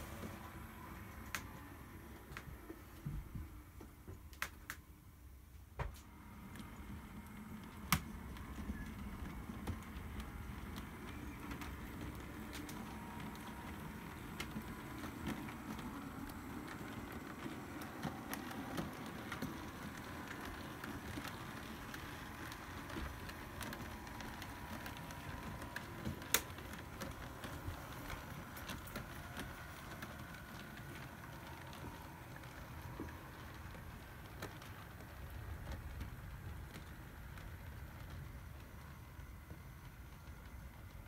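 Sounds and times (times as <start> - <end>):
wheels clicking over track: 6.0 - 41.0.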